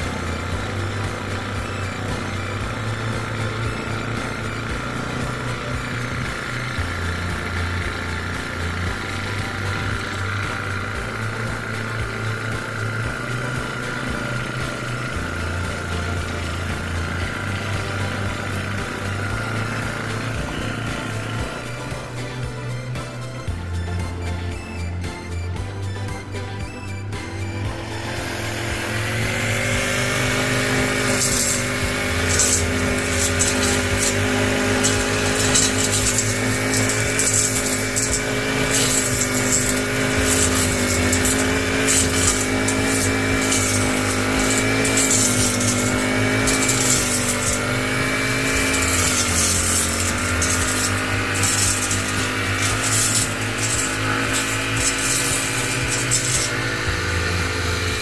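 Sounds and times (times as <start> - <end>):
trimmer engine running: 0.0 - 58.0.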